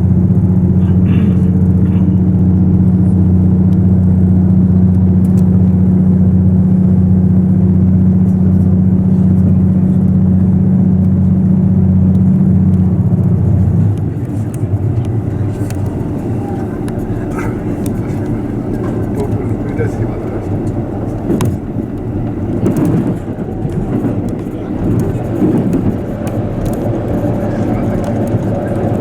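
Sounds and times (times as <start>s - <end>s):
diesel railcar engine droning: 0.0s - 29.0s.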